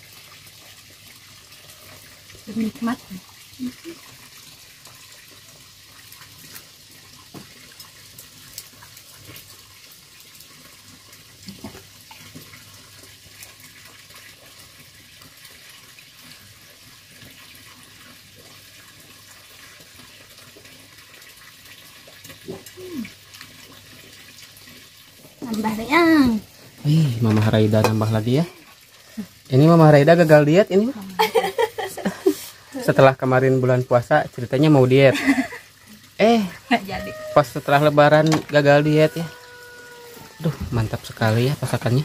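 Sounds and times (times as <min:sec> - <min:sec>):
running water hiss: 0:00.0 - 0:42.0.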